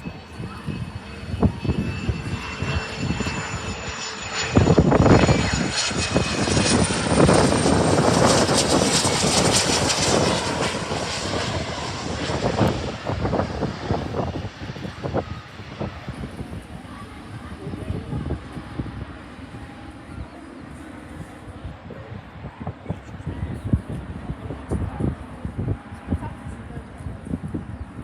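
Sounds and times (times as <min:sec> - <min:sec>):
airliner engines passing: 0:00.0 - 0:28.0.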